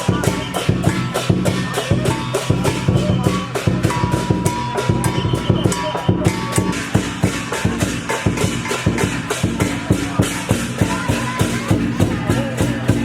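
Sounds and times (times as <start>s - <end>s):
fast even drumbeat: 0.0s - 13.0s.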